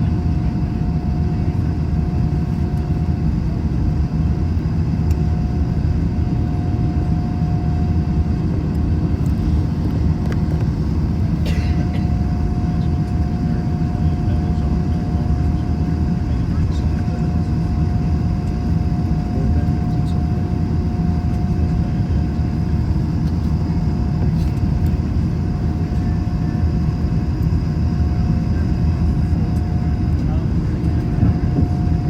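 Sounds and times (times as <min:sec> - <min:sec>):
airplane cabin rumble: 0:00.0 - 0:32.0
constant hum tone: 0:00.0 - 0:32.0.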